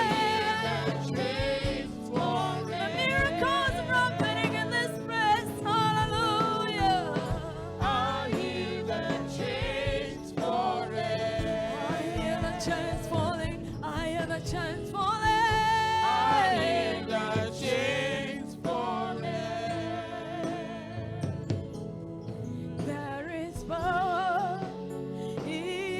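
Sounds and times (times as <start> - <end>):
sustained instrumental accompaniment: 0.0 - 25.9
voices singing gospel: 0.0 - 25.9.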